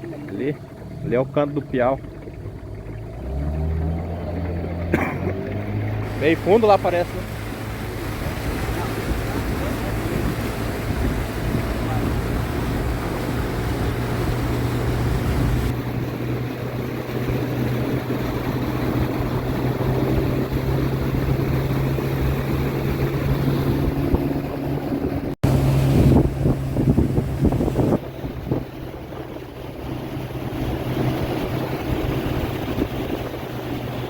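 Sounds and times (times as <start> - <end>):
outboard motor running: 0.0 - 34.0
water noise: 0.0 - 34.0
wind: 0.0 - 34.0.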